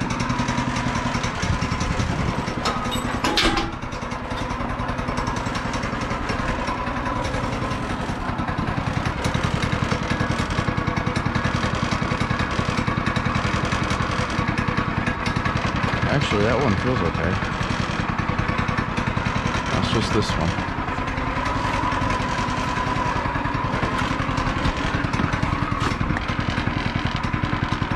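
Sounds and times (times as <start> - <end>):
small motor pulsing: 5.2 - 27.9.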